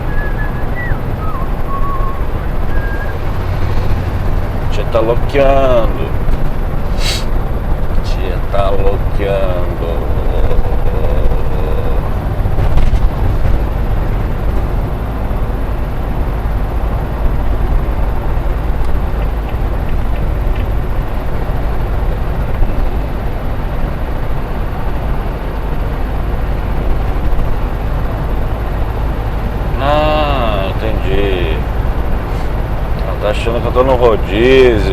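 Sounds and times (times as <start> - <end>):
diesel engine and road noise: 0.0 - 34.9.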